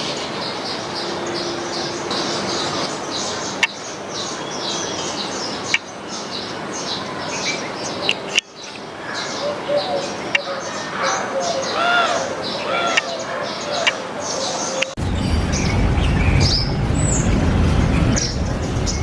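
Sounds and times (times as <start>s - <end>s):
small birds chirping: 0.0s - 17.4s
steady background noise: 0.0s - 19.0s.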